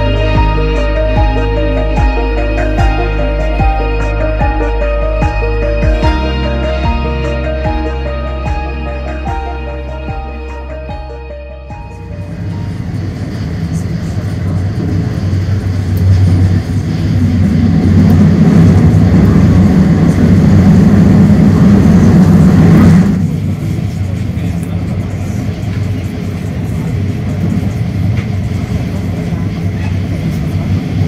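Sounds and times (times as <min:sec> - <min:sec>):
train rumbling at speed: 0:00.0 - 0:31.0.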